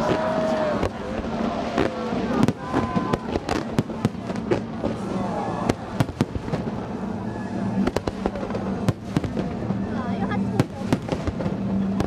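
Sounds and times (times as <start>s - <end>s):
crowd voices: 0.0s - 12.0s
fireworks bangs and crackles: 0.0s - 12.0s.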